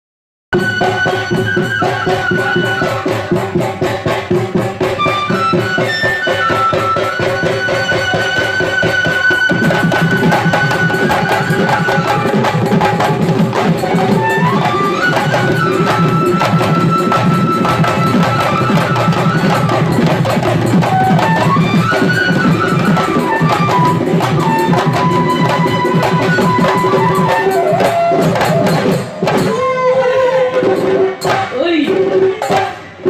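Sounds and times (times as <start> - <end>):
drums playing fast rhythm: 0.5 - 33.0
wind instrument melody: 0.6 - 33.0.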